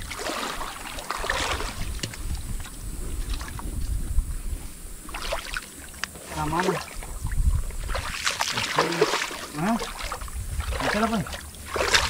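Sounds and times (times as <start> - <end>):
river water splashing: 0.0 - 3.8, 4.7 - 12.0
steady low rumble: 0.0 - 12.0.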